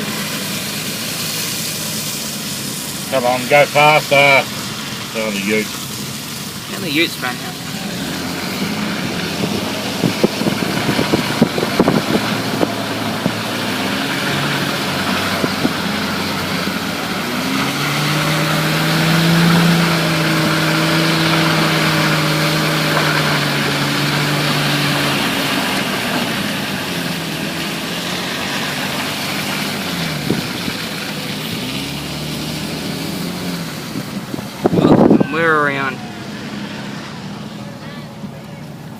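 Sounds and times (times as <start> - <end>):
exhaust crackles and pops: 0.0 - 38.9
vehicle engines running: 0.0 - 38.9.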